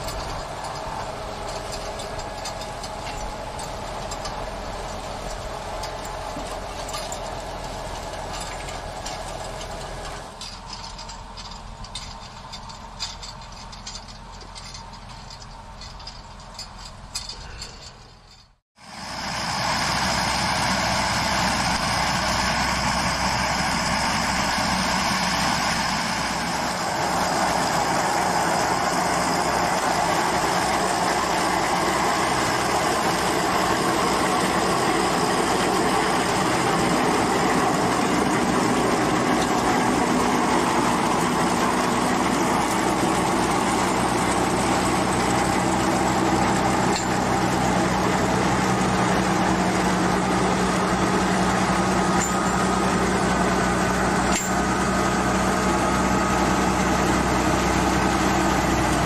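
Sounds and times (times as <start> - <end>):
machinery clicking and rattling: 0.0 - 18.6, 21.4 - 59.0
tractor engine running: 0.0 - 59.0.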